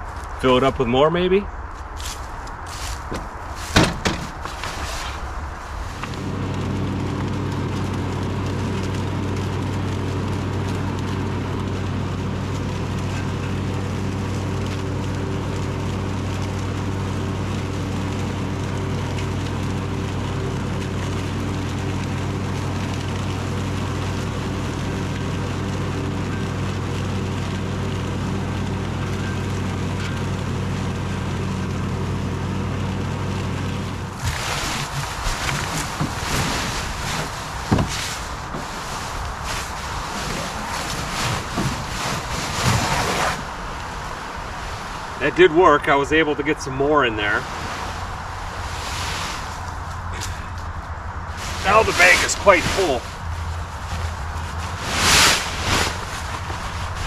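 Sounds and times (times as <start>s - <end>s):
riding lawn mower engine humming: 1.8s - 57.0s.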